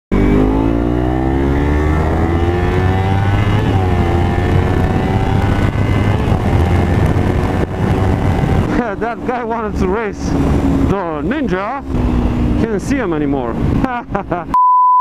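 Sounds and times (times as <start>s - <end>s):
motorcycle engine accelerating: 0.1s - 14.4s.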